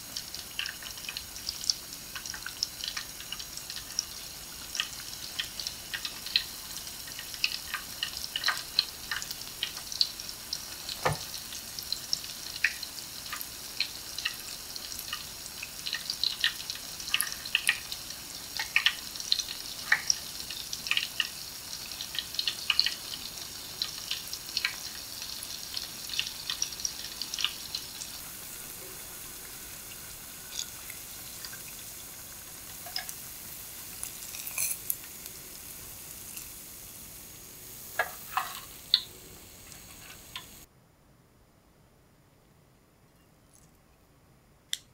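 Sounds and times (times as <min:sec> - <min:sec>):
fritters deep-frying in oil: 0:00.0 - 0:40.7.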